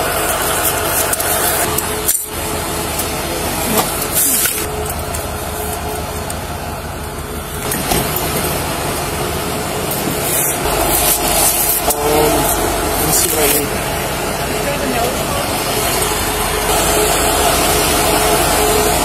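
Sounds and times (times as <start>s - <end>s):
vehicle engines idling: 0.0s - 19.0s.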